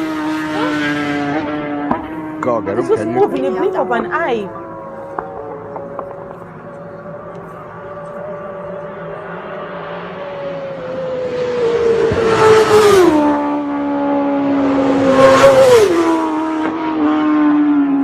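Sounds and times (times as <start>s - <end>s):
racing motorcycles passing: 0.0s - 18.0s.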